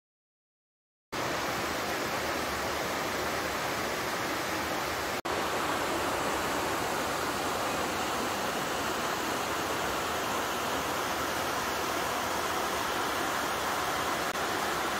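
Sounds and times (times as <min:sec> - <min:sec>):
small waterfall splashing: 0:01.2 - 0:14.9.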